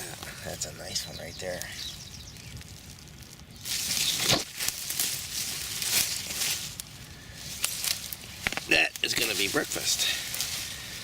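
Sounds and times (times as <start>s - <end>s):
plants rustling and crackling: 0.0s - 11.0s.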